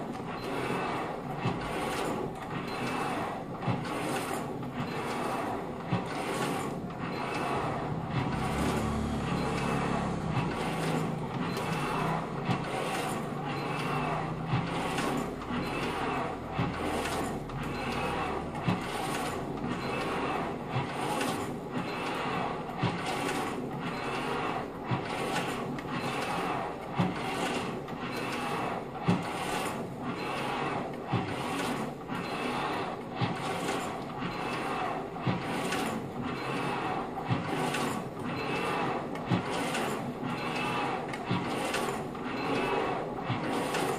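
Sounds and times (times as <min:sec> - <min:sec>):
rhythmic flywheel whoosh: 0:00.0 - 0:43.9.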